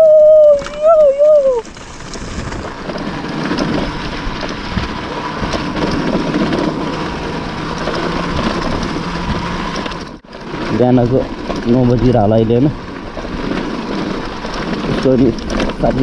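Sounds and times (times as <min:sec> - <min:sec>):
motorcycle engine running: 0:00.0 - 0:16.0
wind on microphone: 0:00.0 - 0:16.0.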